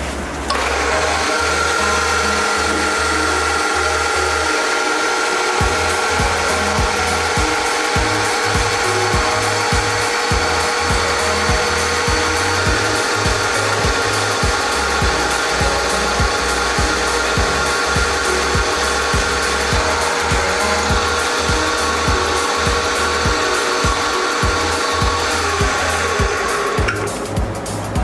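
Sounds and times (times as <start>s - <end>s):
metal cutting noise: 0.0s - 28.0s
milling machine motor whine: 0.5s - 27.2s.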